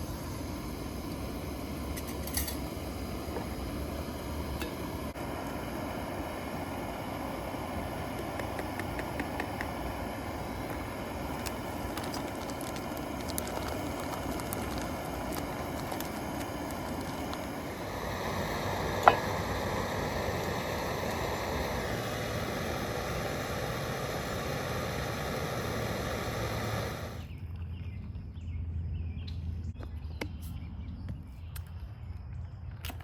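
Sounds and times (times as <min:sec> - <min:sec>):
steady rushing outdoor noise: 0:00.0 - 0:28.8.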